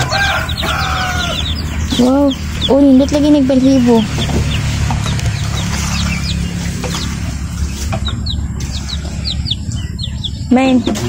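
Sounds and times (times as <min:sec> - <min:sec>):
chicks peeping: 0:00.0 - 0:11.0
low rumble: 0:00.0 - 0:11.0.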